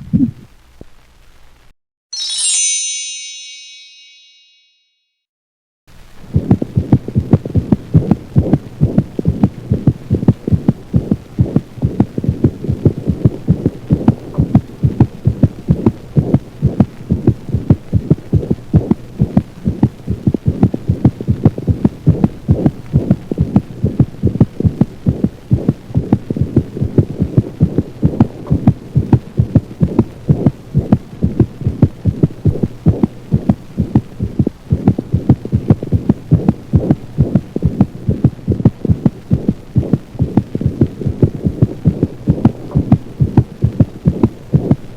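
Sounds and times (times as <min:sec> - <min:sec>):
steady low hum: 0:05.9 - 0:44.9
heartbeat through stethoscope: 0:06.2 - 0:44.9.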